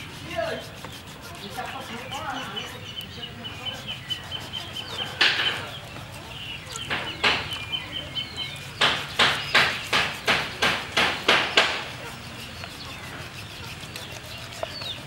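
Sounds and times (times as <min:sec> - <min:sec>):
knife scraping fish scales: 0:00.0 - 0:15.0.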